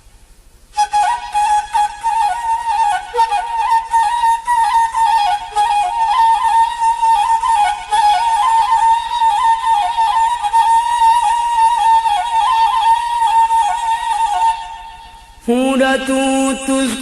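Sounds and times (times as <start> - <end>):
flute playing ornamented melody: 0.8 - 15.4.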